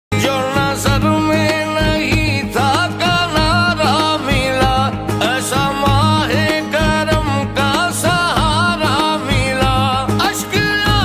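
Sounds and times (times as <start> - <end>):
man singing: 0.1 - 11.0.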